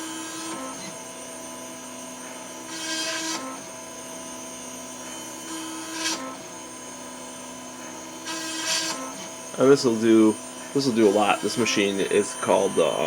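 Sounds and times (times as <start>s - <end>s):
engraving machine humming: 0.0s - 13.0s.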